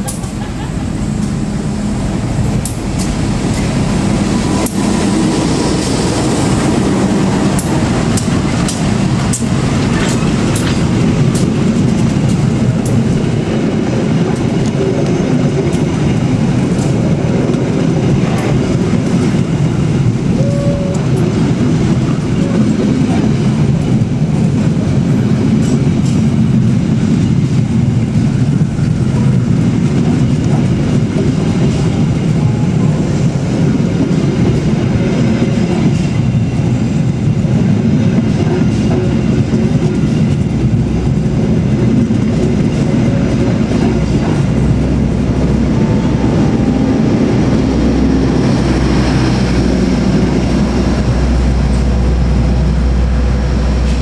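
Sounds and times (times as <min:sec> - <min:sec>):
locomotive passing: 0:00.0 - 0:54.0
train wheels rumbling on rails: 0:00.0 - 0:54.0.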